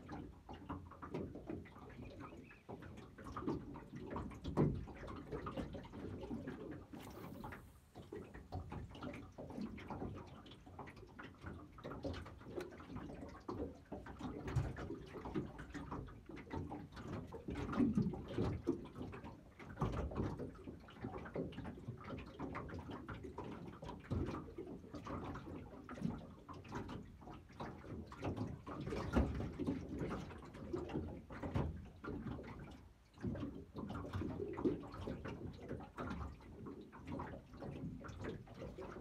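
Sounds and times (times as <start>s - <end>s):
waves lapping against boat hull: 0.0s - 39.0s.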